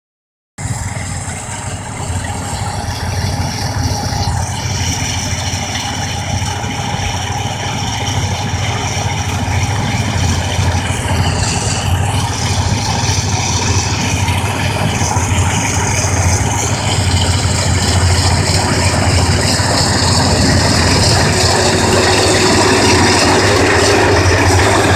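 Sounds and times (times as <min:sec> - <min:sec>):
combine harvester droning: 0:00.6 - 0:24.9.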